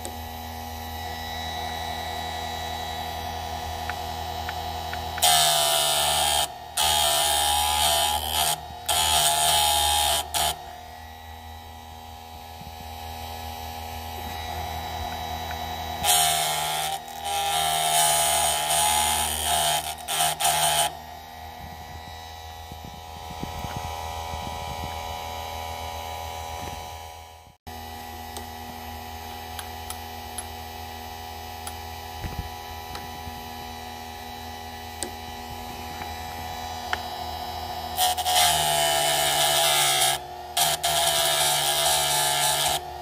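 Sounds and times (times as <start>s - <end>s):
electric motor humming: 0.0s - 43.0s.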